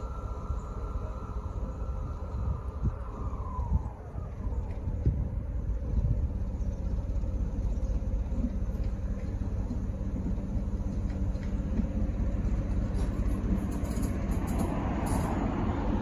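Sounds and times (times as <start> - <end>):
locomotive diesel engine rumble: 0.0 - 16.0.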